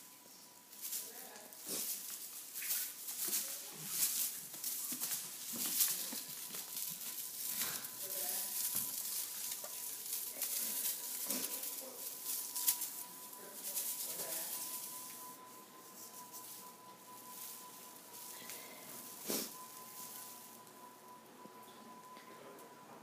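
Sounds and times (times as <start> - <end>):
foil tinsel toy crinkling: 0.6 - 21.2.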